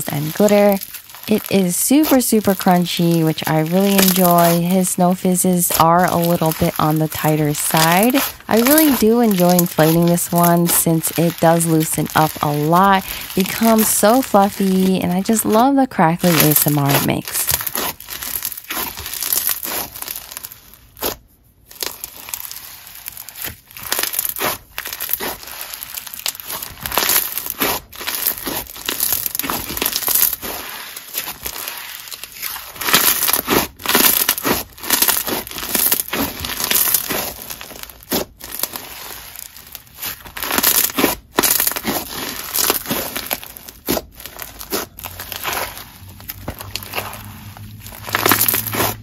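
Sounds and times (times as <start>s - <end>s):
slime crunching and popping: 0.0s - 5.0s, 5.6s - 15.6s, 16.2s - 49.0s.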